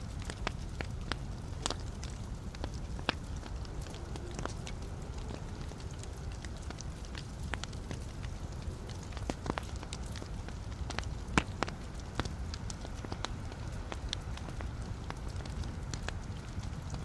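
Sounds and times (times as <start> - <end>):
wood fire crackling in fireplace: 0.0 - 17.0.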